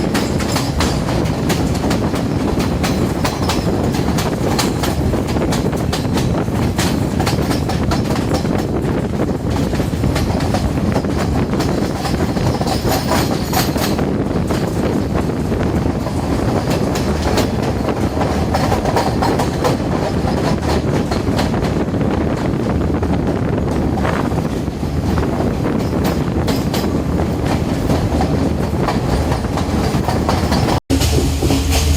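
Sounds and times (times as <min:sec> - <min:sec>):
train running on rails: 0:00.0 - 0:31.9.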